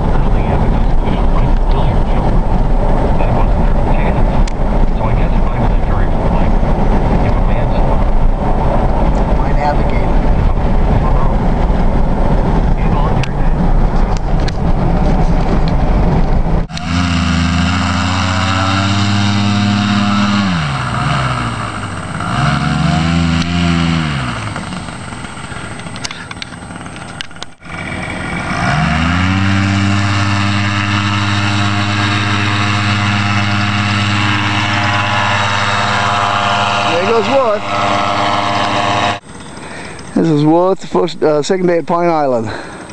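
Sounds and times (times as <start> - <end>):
paramotor engine running: 0.0 - 41.5.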